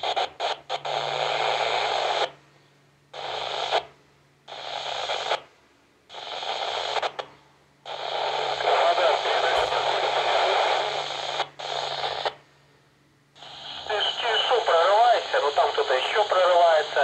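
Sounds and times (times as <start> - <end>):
radio static hiss bursts: 0.0 - 2.4, 3.1 - 5.5, 6.1 - 12.4, 13.4 - 17.0.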